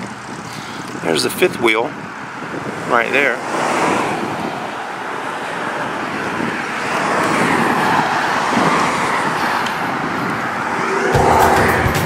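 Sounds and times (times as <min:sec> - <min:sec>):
road traffic rushing: 0:00.0 - 0:12.0.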